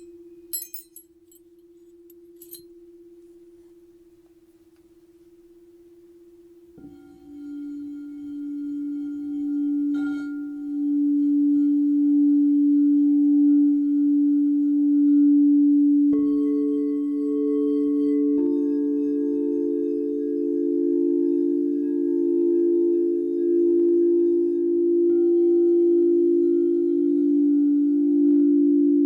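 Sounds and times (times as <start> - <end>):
low singing bowl tone: 5.0 - 29.0.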